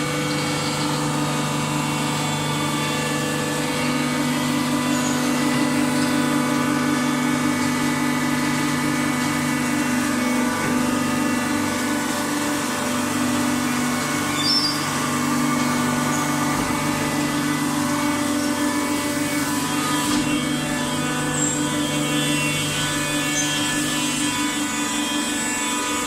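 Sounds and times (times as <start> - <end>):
baling machine humming: 0.0 - 26.0.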